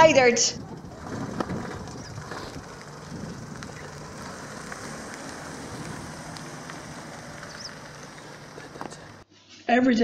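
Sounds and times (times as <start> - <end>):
car driving slowly past: 0.0 - 9.3.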